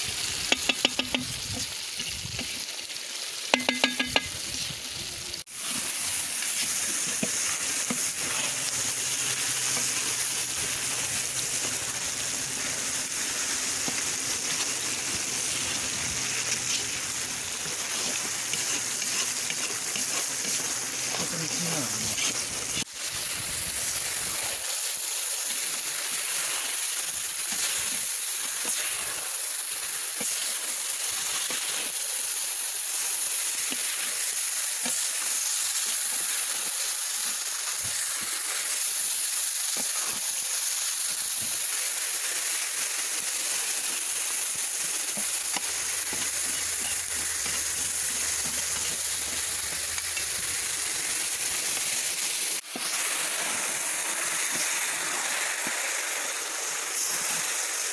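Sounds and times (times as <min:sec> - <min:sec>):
vegetables and meat sizzling in oil: 0:00.0 - 0:57.9.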